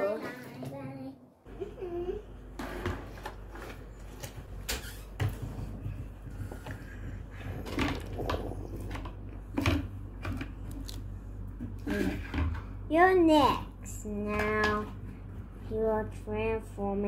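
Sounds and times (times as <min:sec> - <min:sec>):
steady low hum: 0:00.8 - 0:17.0.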